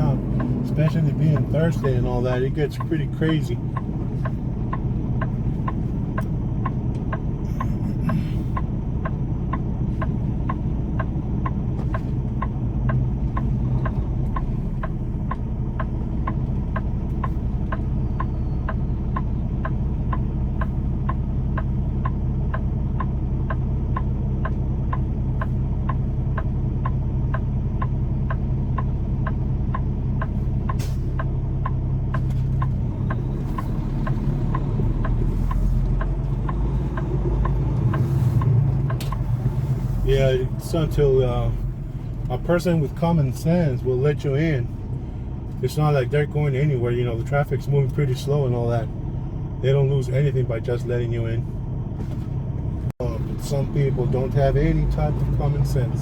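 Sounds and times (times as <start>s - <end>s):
diesel engine running: 0.0s - 56.0s
turn signal ticking: 0.0s - 56.0s.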